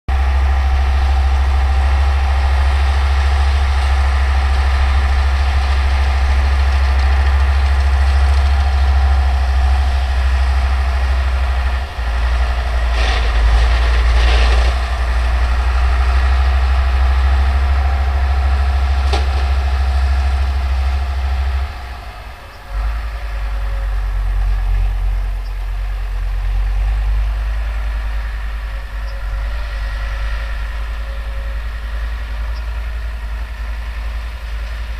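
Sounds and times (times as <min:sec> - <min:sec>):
tractor engine droning: 0:00.1 - 0:34.9.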